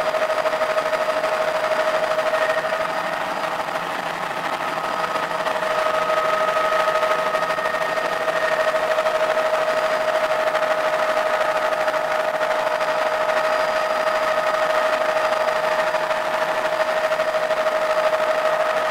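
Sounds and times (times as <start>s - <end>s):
helicopter engine whine: 0.0s - 18.9s
helicopter rotor beat: 0.0s - 18.9s.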